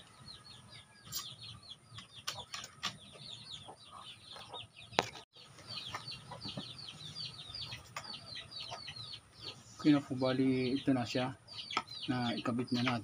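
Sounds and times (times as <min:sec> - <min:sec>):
chicks peeping: 0:00.1 - 0:13.0.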